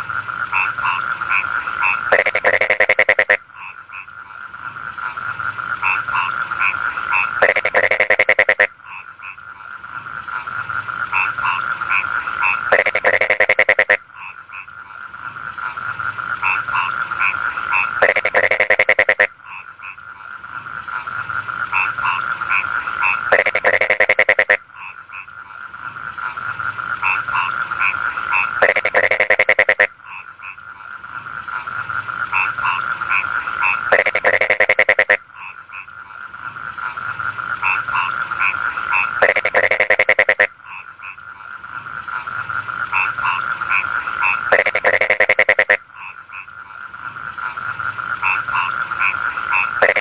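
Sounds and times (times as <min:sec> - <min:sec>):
frogs trilling in chorus: 0:00.0 - 0:50.0
rapid rattling frog croak: 0:00.0 - 0:50.0.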